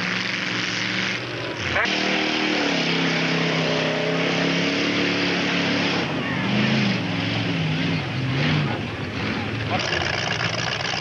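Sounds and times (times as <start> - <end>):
race car engine revving high: 0.0 - 11.0.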